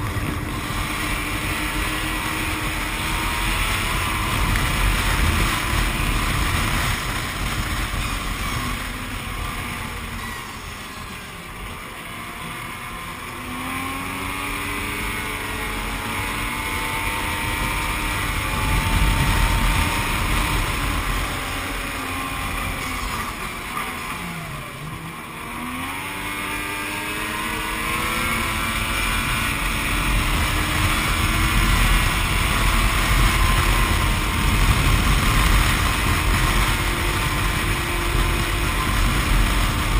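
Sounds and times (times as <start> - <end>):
snowmobile engine revving: 0.0 - 39.9
wind noise on microphone: 0.0 - 39.9.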